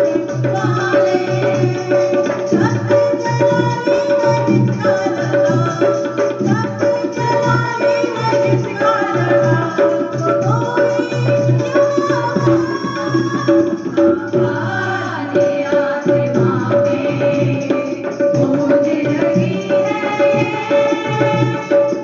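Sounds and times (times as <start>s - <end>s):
tabla rhythm: 0.0s - 22.0s.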